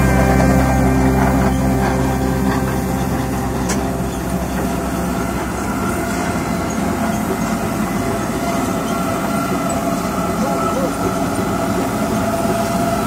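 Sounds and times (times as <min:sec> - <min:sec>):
steam engine exhaust chuffing: 0:00.0 - 0:13.0.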